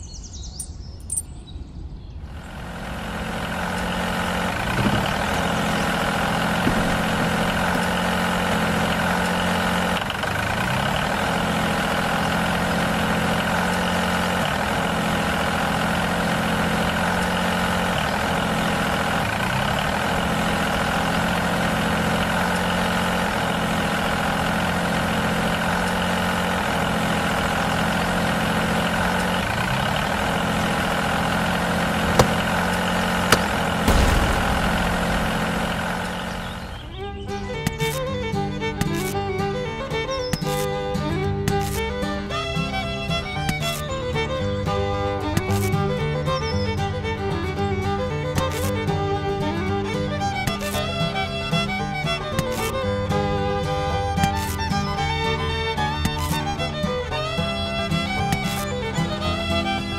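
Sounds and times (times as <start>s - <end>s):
motor whining: 2.3s - 59.9s.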